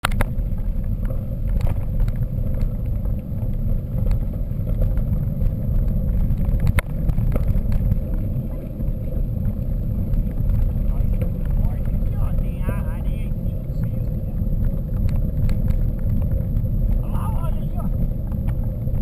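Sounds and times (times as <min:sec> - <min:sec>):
bike clicks and rattles: 0:00.0 - 0:19.0
wind and tyres rolling rumble: 0:00.0 - 0:19.0.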